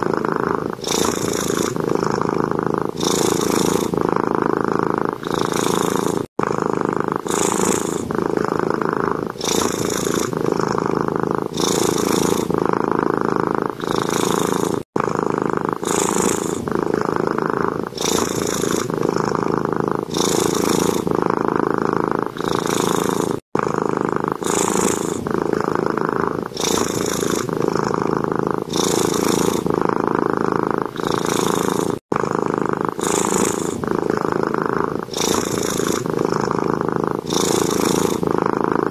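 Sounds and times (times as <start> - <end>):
cat purring loudly: 0.0 - 38.9.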